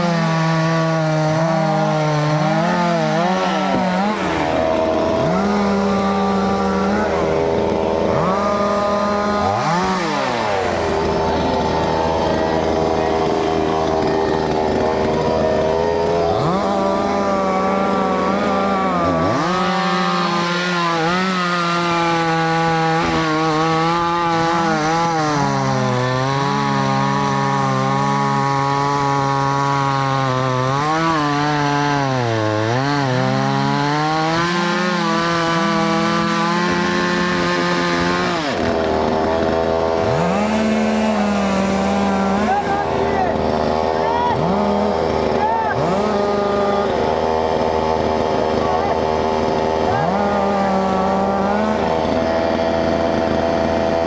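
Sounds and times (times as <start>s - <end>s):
chainsaw cutting into tree: 0.0s - 54.0s.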